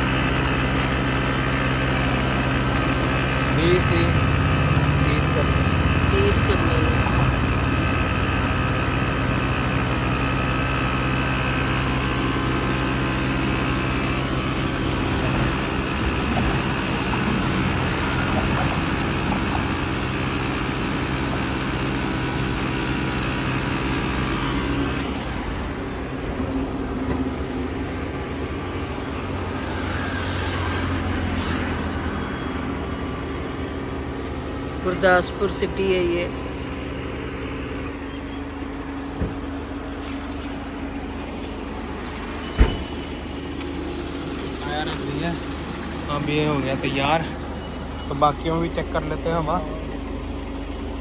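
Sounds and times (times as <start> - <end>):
tyre inflator running: 0.0 - 35.4, 39.9 - 49.8.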